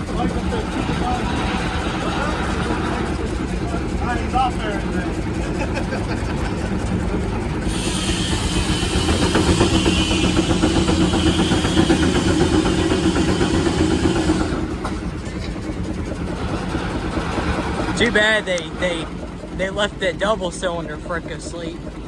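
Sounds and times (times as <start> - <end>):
steam engine low rumble: 0.0 - 22.0.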